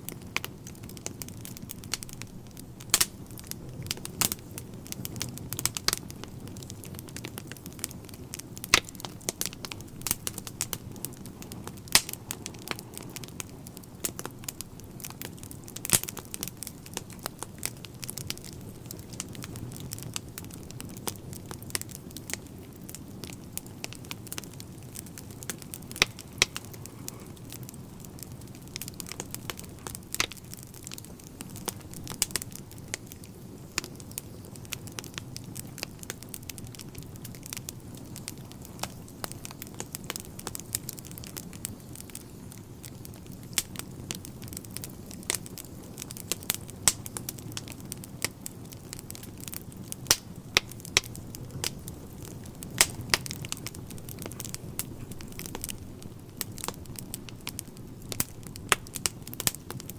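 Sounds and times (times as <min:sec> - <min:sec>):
fire crackling and popping: 0:00.0 - 0:59.9
low roar of flames: 0:00.0 - 0:59.9.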